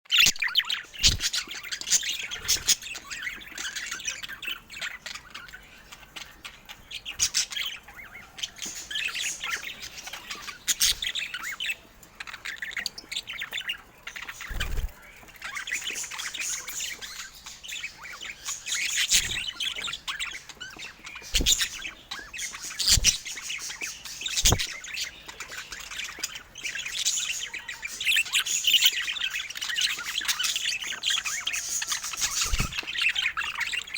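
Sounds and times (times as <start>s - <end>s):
budgerigars chattering: 0.3s - 33.9s.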